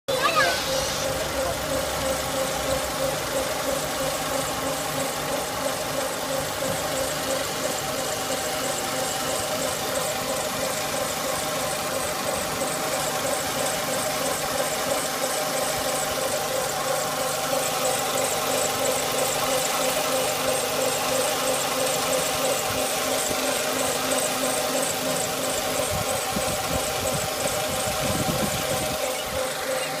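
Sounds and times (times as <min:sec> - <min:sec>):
vehicle engine running: 0:00.0 - 0:30.0
pulsing high-pitched whine: 0:00.1 - 0:30.0.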